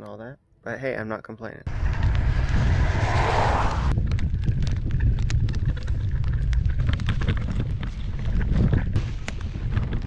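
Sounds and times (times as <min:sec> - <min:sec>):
wind buffeting microphone: 0:01.7 - 0:10.0.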